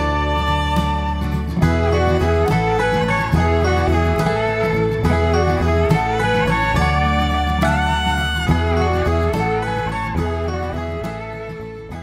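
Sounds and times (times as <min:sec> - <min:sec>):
instrumental waltz music: 0:00.0 - 0:12.0.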